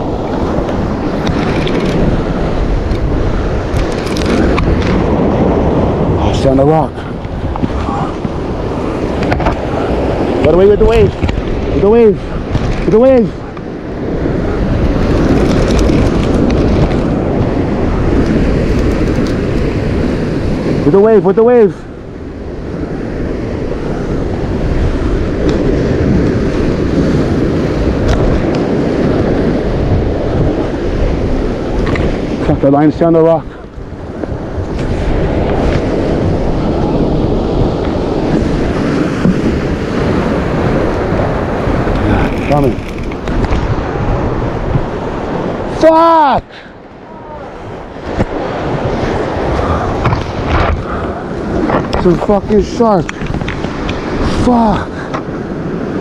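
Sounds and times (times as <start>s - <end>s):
surf washing over rocks: 0.0s - 56.0s
wind buffeting microphone: 0.0s - 56.0s.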